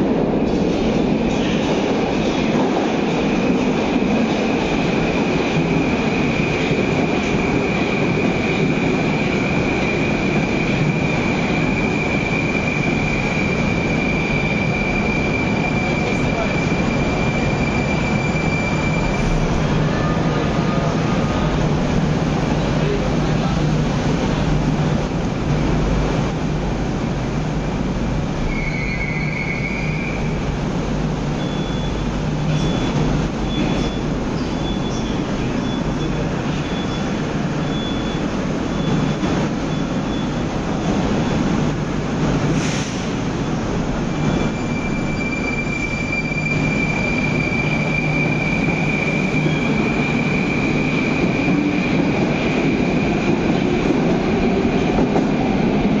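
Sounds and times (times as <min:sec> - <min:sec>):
metro train wheels rumbling: 0:00.0 - 0:56.0.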